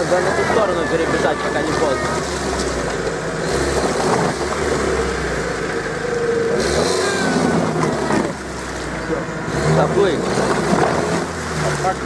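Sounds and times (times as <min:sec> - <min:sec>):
engine revving under load: 0:00.0 - 0:12.0
wheels spinning in mud: 0:00.0 - 0:12.0.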